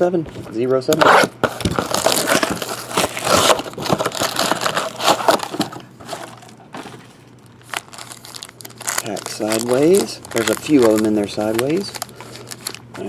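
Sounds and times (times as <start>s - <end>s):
packaging crackling and tearing: 1.0s - 13.0s.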